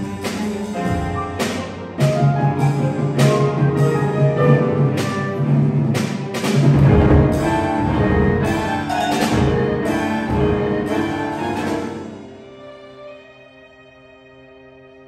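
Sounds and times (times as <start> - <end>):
chamber ensemble playing loudly: 0.0 - 13.9.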